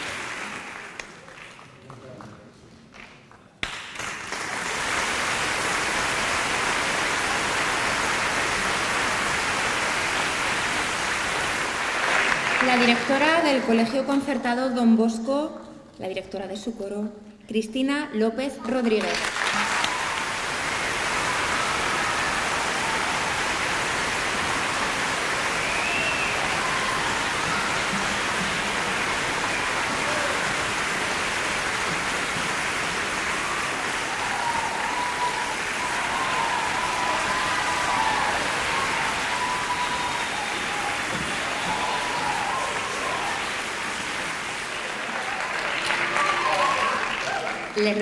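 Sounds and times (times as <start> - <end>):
crowd applause: 0.0 - 14.3, 18.8 - 48.0.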